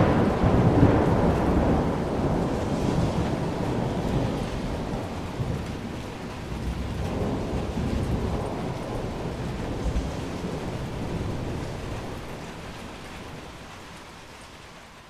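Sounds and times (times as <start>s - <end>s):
deep rumble of thunder: 0.0s - 14.2s
steady rain hiss: 0.0s - 15.0s.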